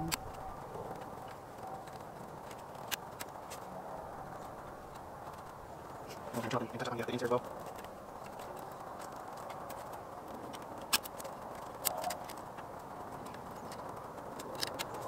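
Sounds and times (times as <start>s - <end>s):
steady background noise: 0.0s - 15.0s
twigs clicking and cracking: 0.0s - 15.0s.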